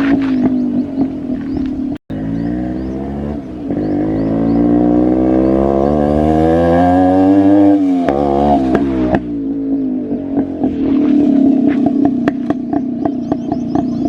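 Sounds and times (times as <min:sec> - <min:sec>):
two-stroke motorcycle engine: 0:00.0 - 0:14.0.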